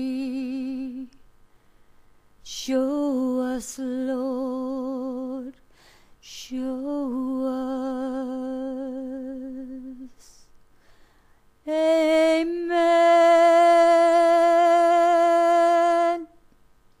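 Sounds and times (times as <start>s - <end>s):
woman singing unaccompanied: 0.0s - 1.2s, 2.4s - 10.5s, 11.6s - 16.5s.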